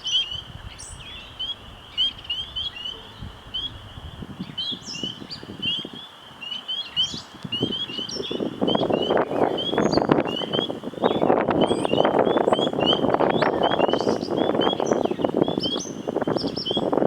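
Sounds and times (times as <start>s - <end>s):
gusting wind: 0.0s - 17.0s.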